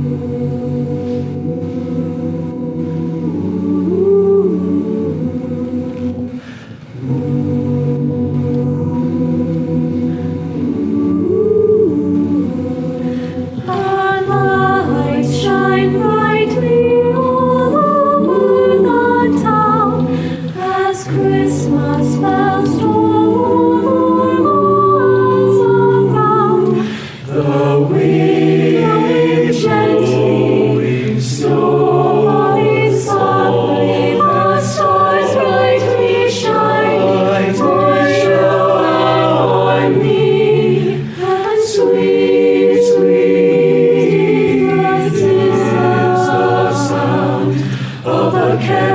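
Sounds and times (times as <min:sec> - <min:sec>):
choir singing a carol: 0:00.0 - 0:48.9.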